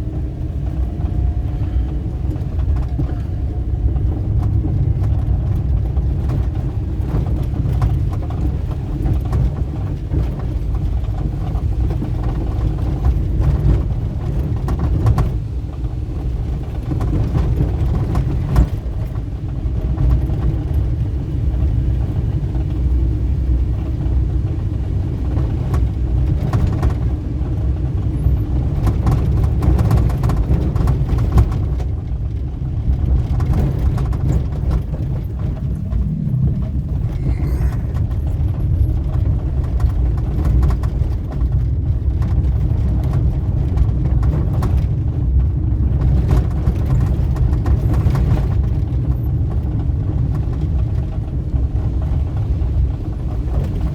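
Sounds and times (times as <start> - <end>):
vehicle engine and road rumble: 0.0 - 53.9.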